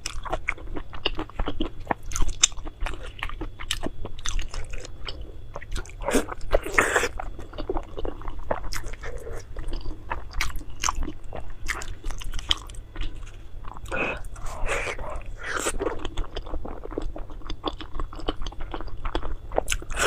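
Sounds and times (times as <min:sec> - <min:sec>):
person biting and chewing food: 0:00.0 - 0:20.0.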